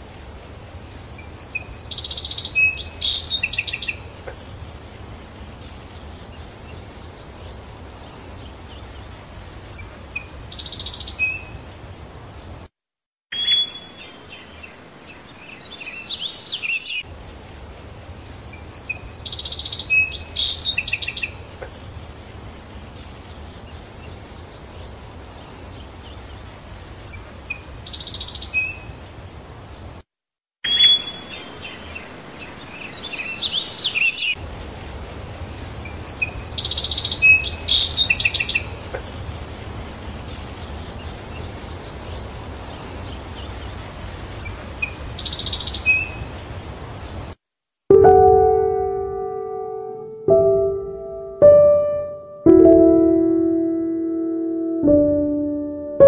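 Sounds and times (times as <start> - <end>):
songbird chirping: 0.0 - 11.9, 13.3 - 29.1, 30.6 - 34.4, 35.8 - 47.1, 47.9 - 56.0
low outdoor background noise: 0.0 - 12.7, 13.3 - 30.0, 30.6 - 56.0.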